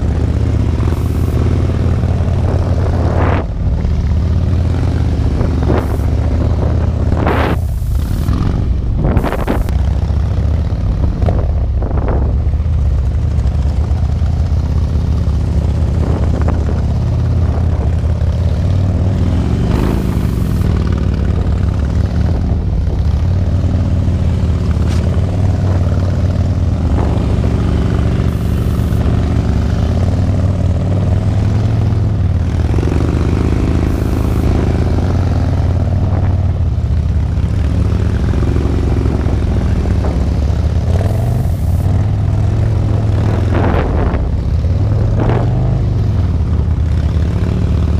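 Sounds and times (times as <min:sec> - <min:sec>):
motorcycle riding past: 0:00.0 - 0:11.5, 0:13.0 - 0:47.9
motorcycle engines rumbling: 0:00.0 - 0:47.9.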